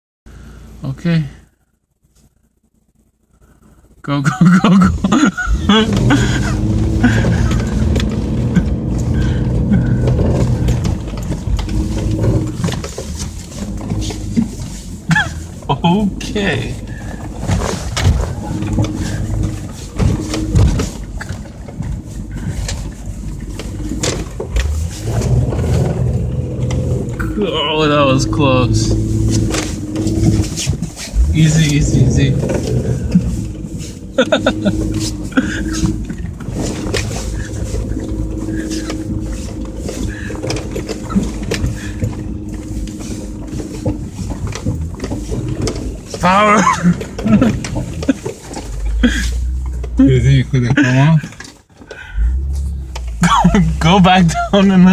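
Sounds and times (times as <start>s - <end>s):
car engine running: 0.3s - 54.9s
knocks and bumps: 4.5s - 54.9s.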